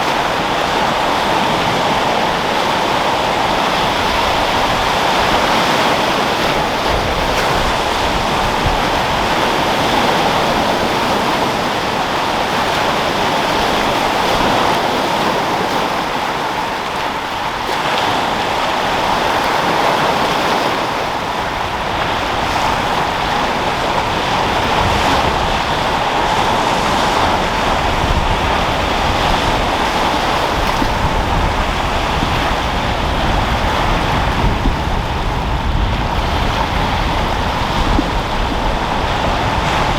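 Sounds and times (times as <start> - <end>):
sea waves breaking: 0.0 - 39.9
wind rumbling on microphone: 0.0 - 39.9.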